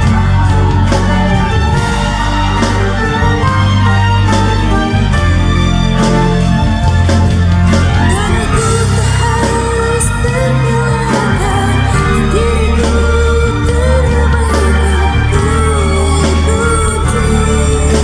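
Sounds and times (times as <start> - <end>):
person singing karaoke: 0.0 - 5.4, 7.2 - 18.0
pop backing track: 0.0 - 18.0.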